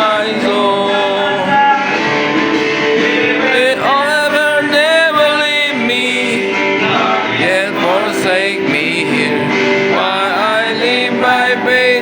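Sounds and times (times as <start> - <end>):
people singing a hymn: 0.0 - 12.0
strummed acoustic guitar: 0.0 - 12.0.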